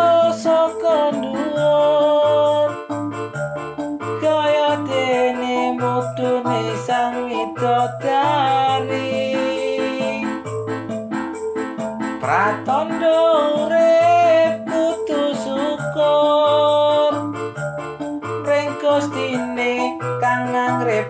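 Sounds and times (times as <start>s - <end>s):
song with held melody and bass: 0.0s - 21.0s.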